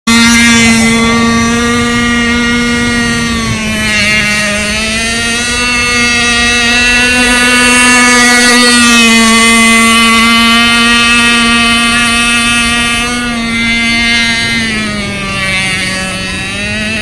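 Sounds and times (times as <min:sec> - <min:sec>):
model boat engine high-pitched drone: 0:00.1 - 0:17.0.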